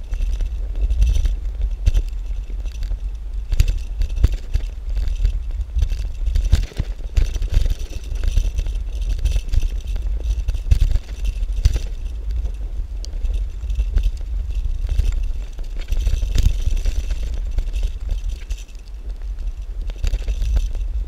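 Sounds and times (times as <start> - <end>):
bike rattling over bumps: 0.0 - 21.0
tyres rumbling on pavement: 0.0 - 21.0
wind buffeting microphone: 0.0 - 21.0.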